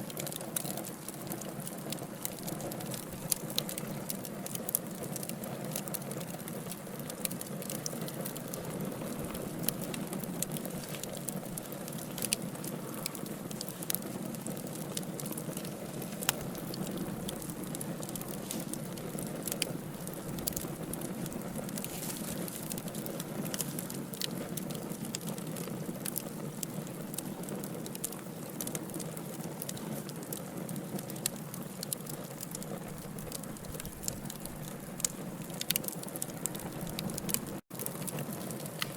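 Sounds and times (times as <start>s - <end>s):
fire crackling and popping: 0.0s - 38.9s
low rush of flames: 0.1s - 38.9s.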